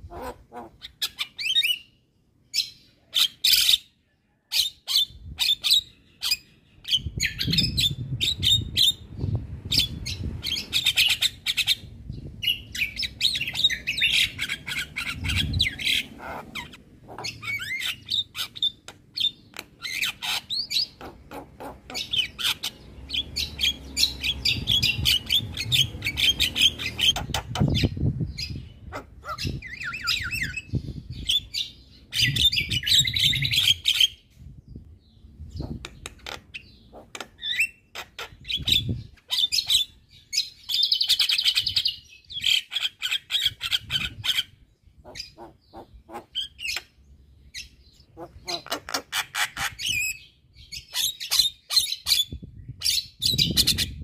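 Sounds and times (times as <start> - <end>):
myna bird singing: 0.0 - 54.0.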